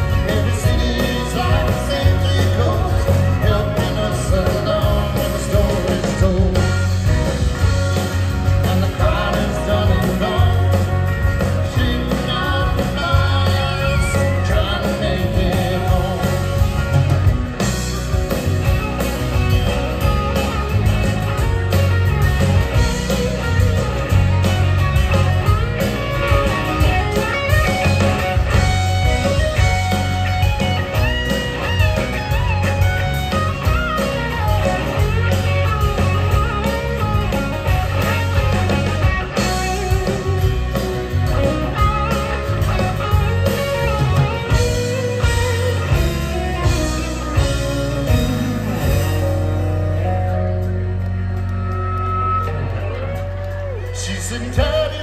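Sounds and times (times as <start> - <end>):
acoustic guitar: 0.0 - 55.0
bass guitar: 0.0 - 55.0
drums: 0.0 - 55.0
electric guitar: 0.0 - 55.0
keyboards: 0.0 - 55.0.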